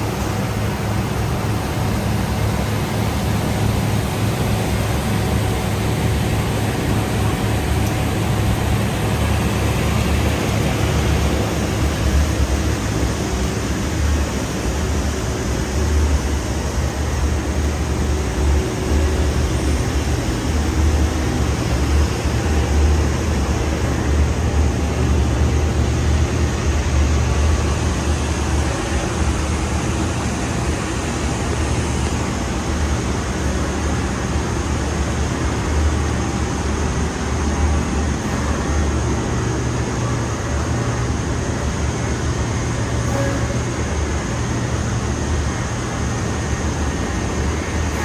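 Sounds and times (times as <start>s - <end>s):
production line machinery roar: 0.0s - 48.0s.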